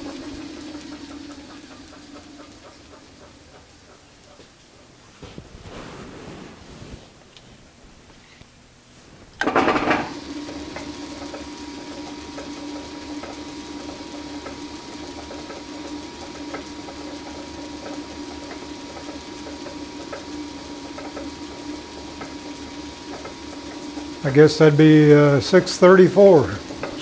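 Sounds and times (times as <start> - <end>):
metal lathe running: 0.0 - 4.9, 9.4 - 27.0.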